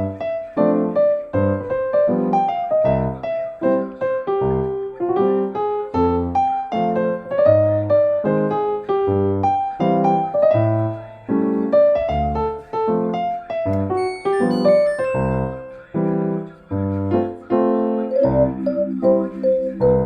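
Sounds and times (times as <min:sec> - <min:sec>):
gentle piano tune: 0:00.0 - 0:20.0.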